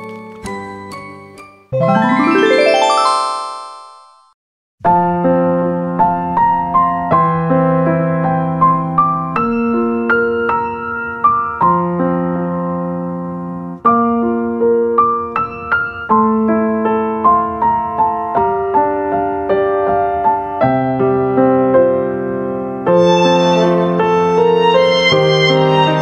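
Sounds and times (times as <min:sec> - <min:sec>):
slow piano tune: 0:00.0 - 0:04.2, 0:04.8 - 0:26.0.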